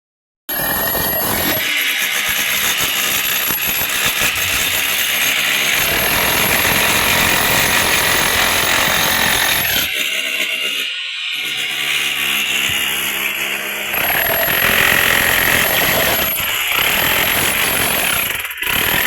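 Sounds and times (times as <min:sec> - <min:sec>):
power tool hammering rattle: 0:00.6 - 0:19.0.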